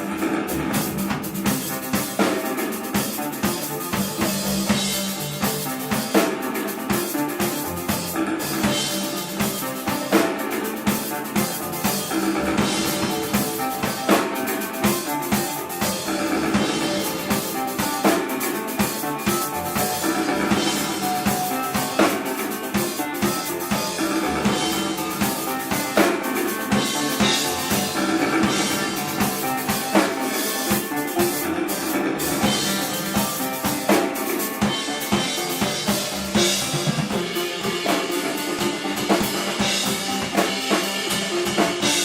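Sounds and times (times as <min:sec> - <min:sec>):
drum kit hits: 0:00.0 - 0:42.0
live band playing: 0:00.0 - 0:42.0.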